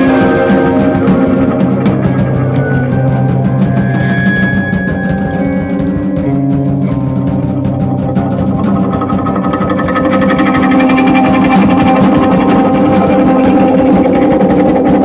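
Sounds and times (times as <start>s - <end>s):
jazz-rock band playing: 0.0s - 15.0s.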